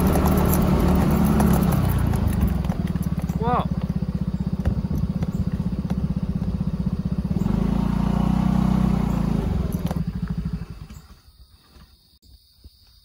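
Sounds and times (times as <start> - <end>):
motorcycle engine idling and revving: 0.0 - 11.9.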